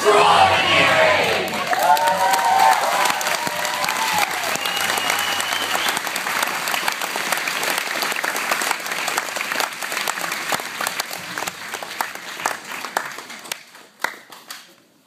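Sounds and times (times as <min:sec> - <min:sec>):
crowd applauding: 0:01.2 - 0:14.8.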